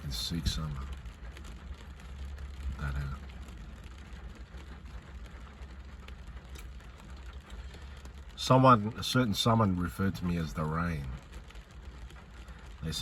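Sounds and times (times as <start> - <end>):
light rain falling: 0.0 - 13.0
raindrops ticking: 0.0 - 13.0
steady low rumble: 0.0 - 13.0.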